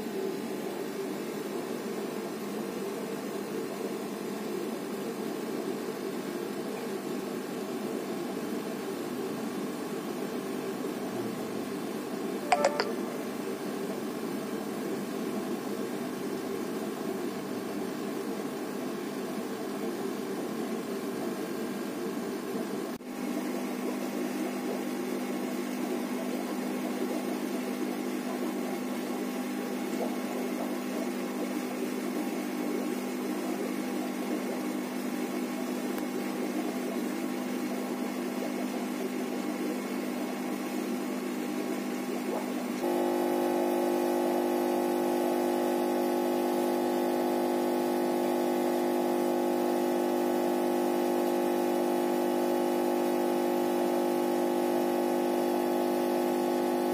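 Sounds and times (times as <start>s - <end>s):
mechanical hum with held tones: 0.0s - 56.9s.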